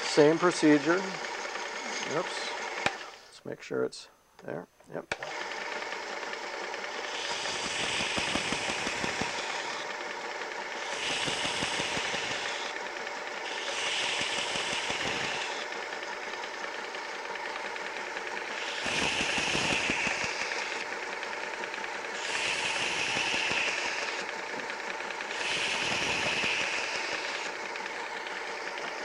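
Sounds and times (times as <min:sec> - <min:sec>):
sharpener motor running: 0:00.0 - 0:03.3, 0:05.1 - 0:29.0.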